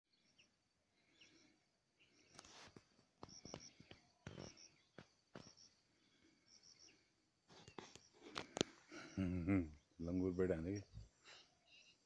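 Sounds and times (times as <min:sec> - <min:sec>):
faint bird chirps: 0:00.1 - 0:12.0.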